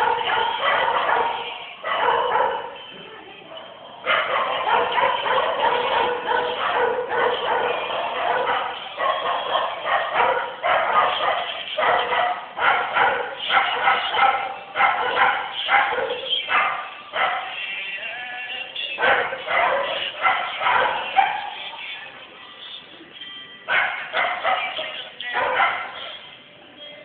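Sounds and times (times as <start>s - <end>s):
dog barking and yipping: 0.0s - 2.8s, 3.5s - 17.6s, 18.9s - 21.9s, 23.7s - 26.3s.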